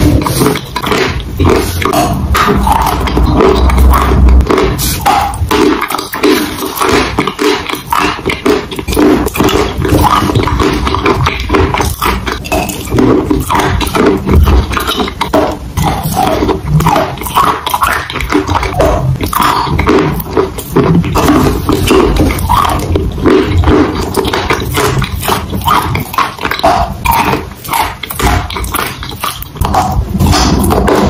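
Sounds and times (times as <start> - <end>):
wet chewing mouth sounds: 0.0 - 31.0.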